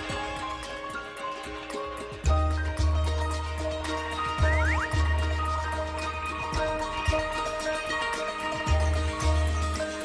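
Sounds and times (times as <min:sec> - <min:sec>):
percussion hits: 0:00.0 - 0:10.0.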